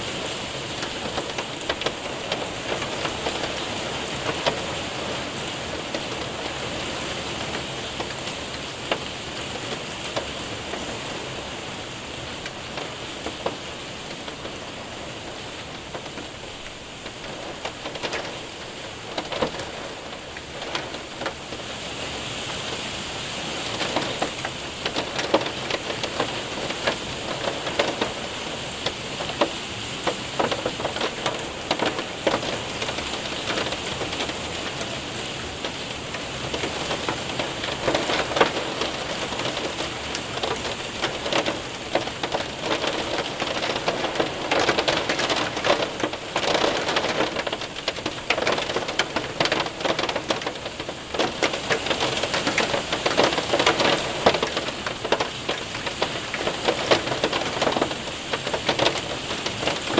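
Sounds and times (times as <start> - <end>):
hailstones tapping: 0.0 - 59.9
rain patter on window and roof: 0.0 - 59.9.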